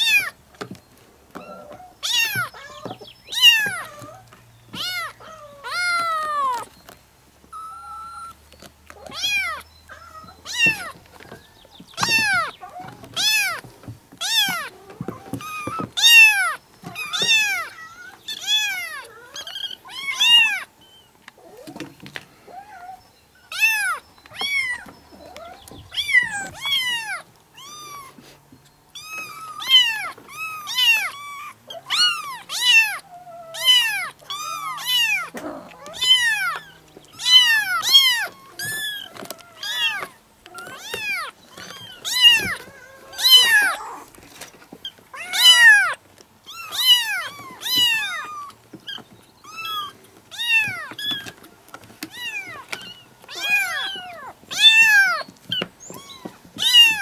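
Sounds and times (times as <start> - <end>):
kittens meowing: 0.0 - 0.4, 1.3 - 6.8, 7.4 - 57.0.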